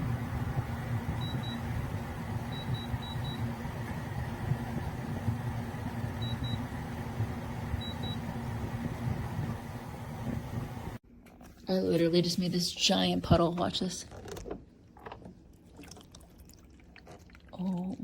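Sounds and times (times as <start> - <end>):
air conditioner hum and rush: 0.0 - 17.8.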